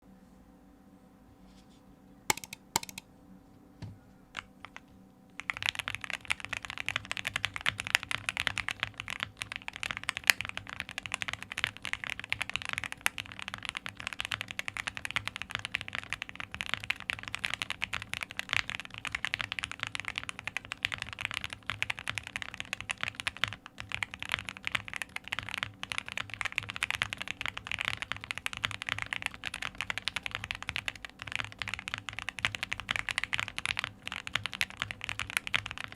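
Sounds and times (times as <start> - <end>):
mechanical keyboard typing: 2.3 - 3.0, 5.4 - 35.9.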